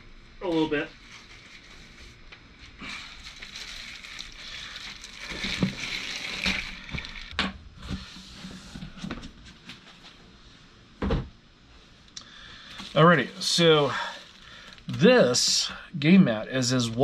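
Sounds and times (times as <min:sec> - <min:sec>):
rustling and handling noise: 0:00.5 - 0:11.0, 0:11.6 - 0:15.7.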